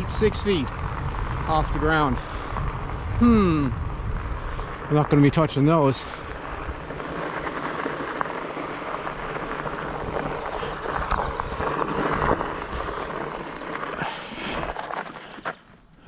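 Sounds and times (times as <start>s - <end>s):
bike tyres rolling over gravel: 0.0s - 15.7s.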